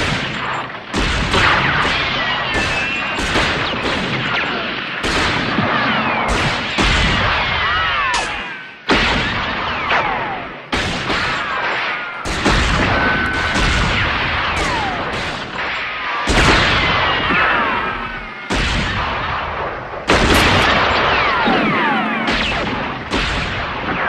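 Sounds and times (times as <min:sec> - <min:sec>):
echoing gunshots: 0:00.0 - 0:24.0.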